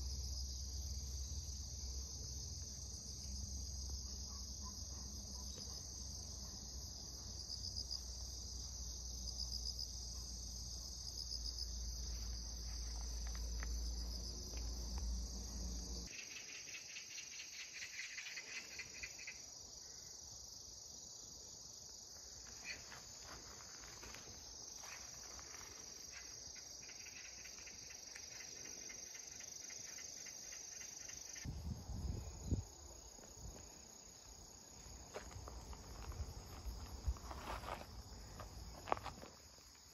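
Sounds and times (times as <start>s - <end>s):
high-pitched insect chorus trilling: 0.0s - 39.9s
pulsing insect trill: 0.0s - 39.9s.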